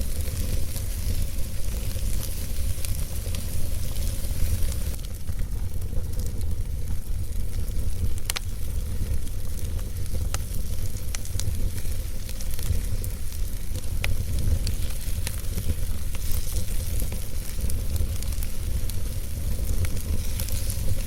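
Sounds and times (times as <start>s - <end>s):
fire rumbling and hissing: 0.0s - 21.0s
logs crackling and popping: 0.0s - 21.0s.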